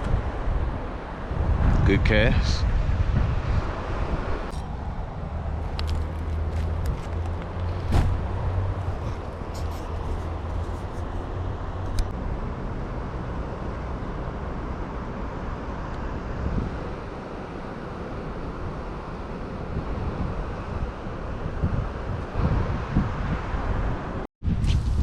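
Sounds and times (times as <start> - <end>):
wind blowing across microphone: 0.0 - 25.0.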